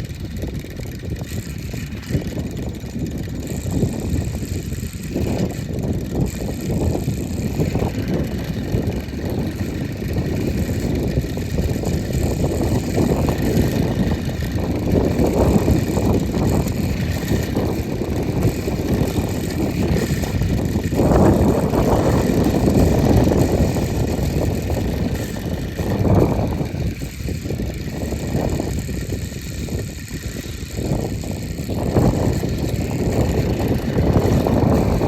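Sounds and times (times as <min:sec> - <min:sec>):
fan whirring: 0:00.0 - 0:35.0
gusty wind buffeting microphone: 0:00.0 - 0:35.0.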